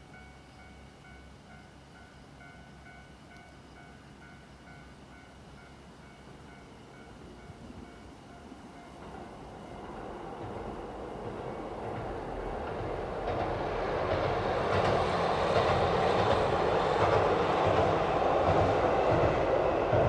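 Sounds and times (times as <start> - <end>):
diesel railcar engine and wheels: 0.0 - 20.0.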